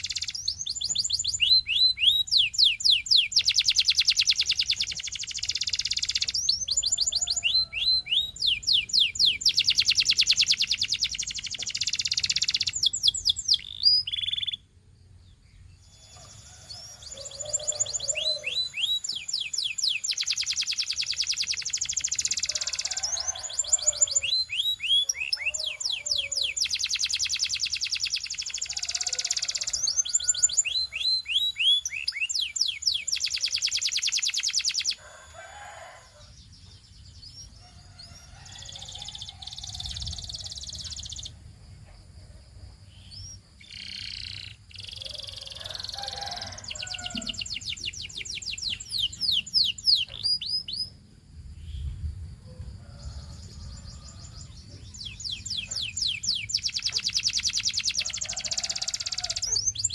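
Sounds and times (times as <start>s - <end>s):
canary singing trills: 0.0s - 14.8s, 15.4s - 41.4s, 42.8s - 51.0s, 52.9s - 59.9s.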